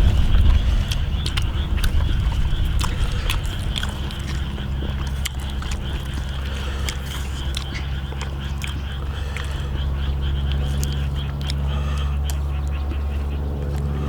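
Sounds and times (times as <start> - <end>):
people chewing food: 0.0 - 14.0
steady low hum: 0.0 - 14.0
short eating clicks: 0.2 - 14.0.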